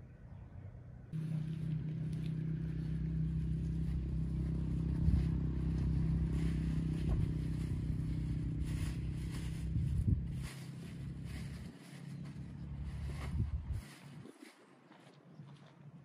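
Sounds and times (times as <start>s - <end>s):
motor humming: 1.2s - 14.1s.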